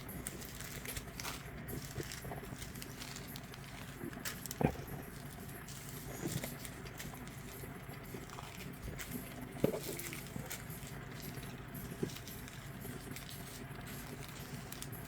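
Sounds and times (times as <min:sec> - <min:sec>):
plastic packets clicking and rustling: 0:00.0 - 0:15.0.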